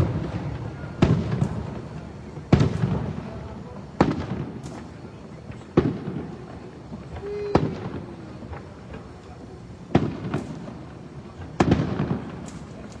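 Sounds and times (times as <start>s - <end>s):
faint fireworks pops: 0.0s - 13.0s
fireworks bangs with rolling echo: 0.0s - 13.0s.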